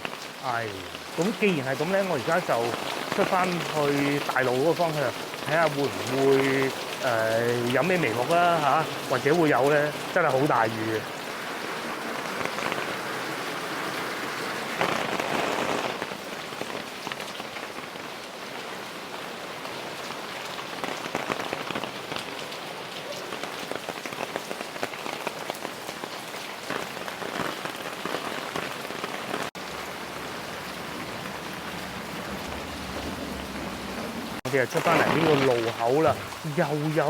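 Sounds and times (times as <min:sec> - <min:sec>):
heavy rain on street: 0:00.0 - 0:37.0.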